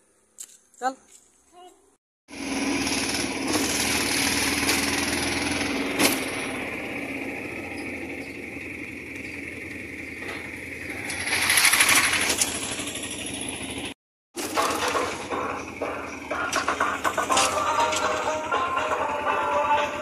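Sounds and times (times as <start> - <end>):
small vehicle engine running: 2.3 - 20.0.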